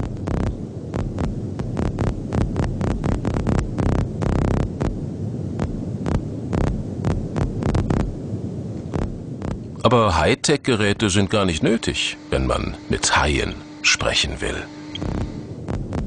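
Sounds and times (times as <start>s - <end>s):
deep underwater hum with rapid pulses: 0.0s - 9.8s, 11.6s - 16.0s.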